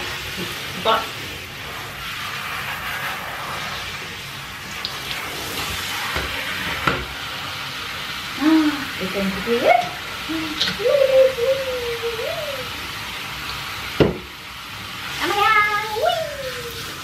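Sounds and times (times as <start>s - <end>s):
shower head spraying water: 0.0s - 17.0s.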